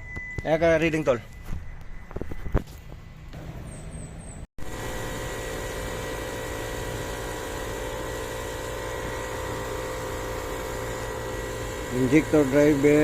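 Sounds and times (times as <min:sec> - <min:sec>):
machine humming: 0:01.7 - 0:13.0.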